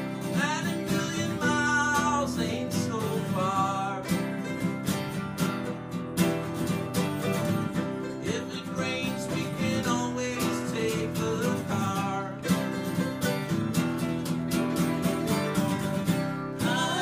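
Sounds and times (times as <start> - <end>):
acoustic guitar strumming: 0.0 - 17.0
mandolin picking a melody: 0.0 - 17.0.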